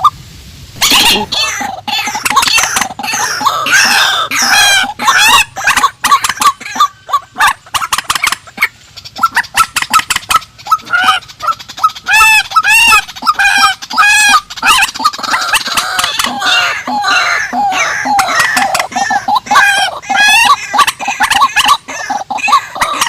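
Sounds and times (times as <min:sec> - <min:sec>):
dense bird chatter: 0:00.8 - 0:23.0
marsh birds calling: 0:00.8 - 0:23.0
nasal bird calls: 0:00.8 - 0:23.0.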